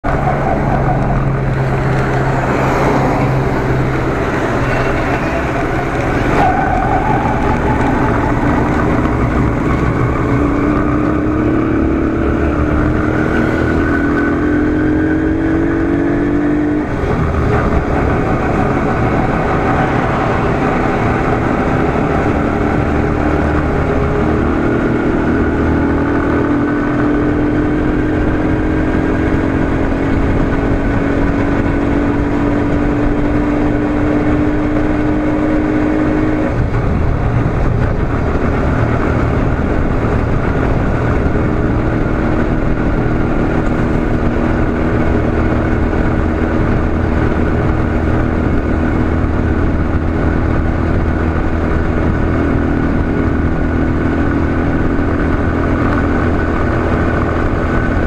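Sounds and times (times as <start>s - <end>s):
motorcycle engine revving: 0.0s - 58.0s
wind and road rumble: 0.0s - 58.0s.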